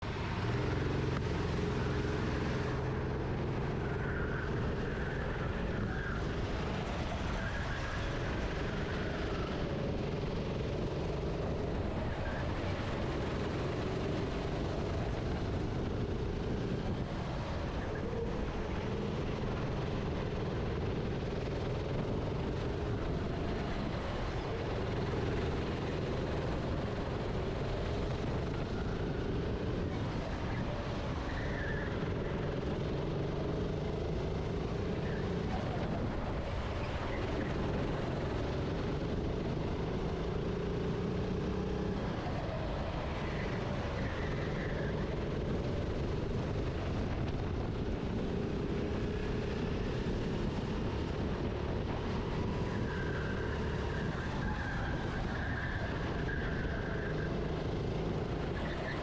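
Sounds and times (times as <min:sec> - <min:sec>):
kart engine revving: 0:00.2 - 0:59.0.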